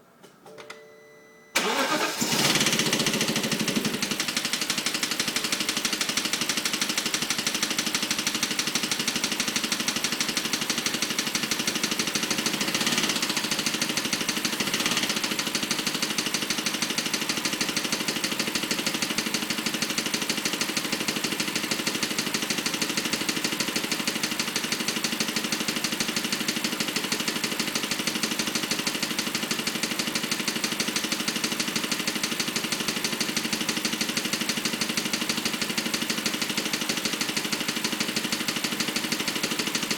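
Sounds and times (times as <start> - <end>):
rapid even engine clicking: 1.6 - 39.9.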